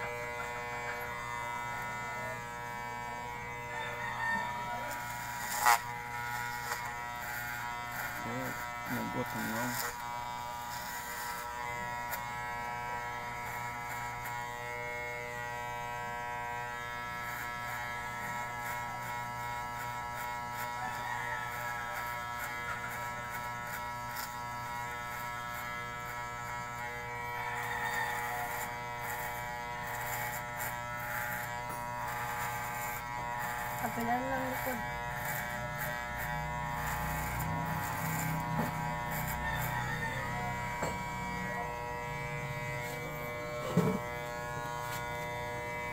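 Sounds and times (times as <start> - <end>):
electric hair clippers buzzing: 0.0 - 45.9.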